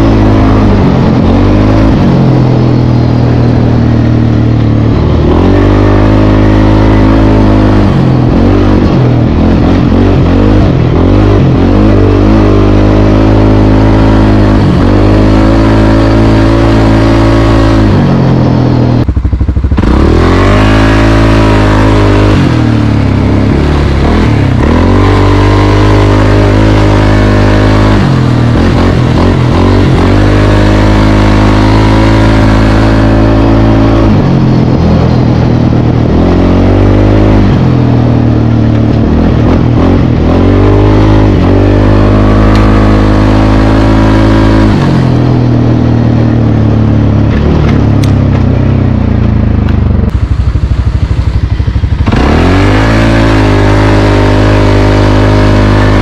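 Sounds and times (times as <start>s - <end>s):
atv engine running under load: 0.0s - 56.0s.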